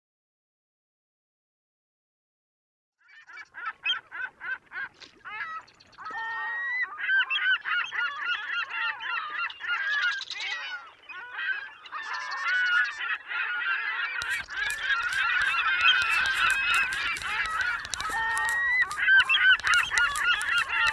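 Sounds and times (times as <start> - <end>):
gulls calling: 3.2 - 20.9.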